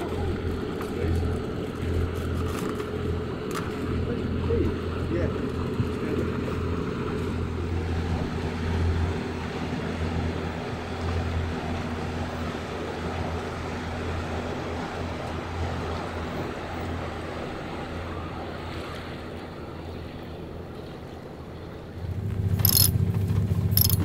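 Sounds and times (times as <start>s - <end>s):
boat engine running: 0.0s - 24.0s
water noise: 0.0s - 24.0s
wind: 0.0s - 24.0s.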